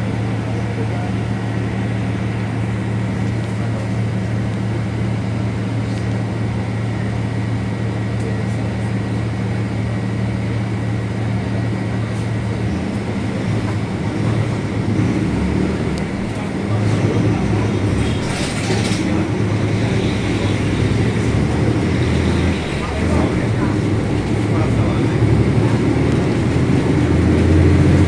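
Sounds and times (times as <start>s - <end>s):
bus drivetrain drone: 0.0s - 28.0s.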